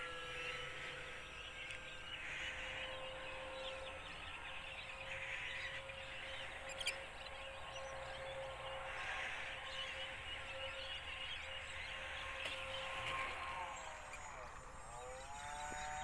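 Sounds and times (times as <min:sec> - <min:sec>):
birds chirping and chattering: 0:00.0 - 0:16.0
model plane motor whine: 0:00.0 - 0:16.0.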